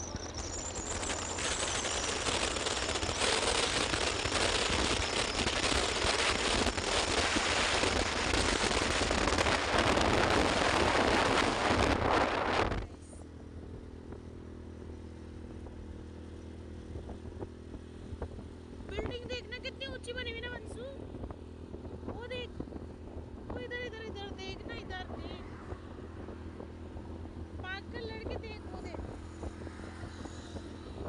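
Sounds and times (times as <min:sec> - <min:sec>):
wind buffeting microphone: 0:00.0 - 0:14.8, 0:15.4 - 0:31.0
motorbike engine hum: 0:00.0 - 0:31.0.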